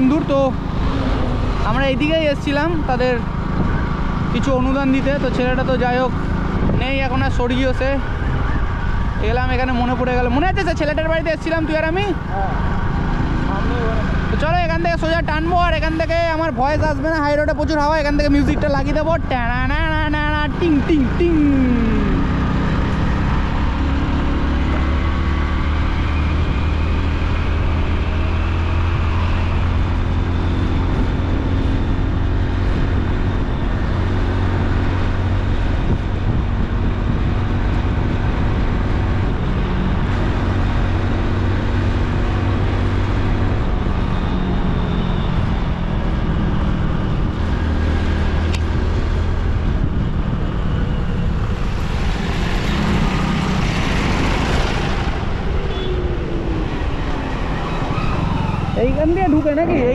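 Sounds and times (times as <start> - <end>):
heavy wind noise: 0.0 - 59.9.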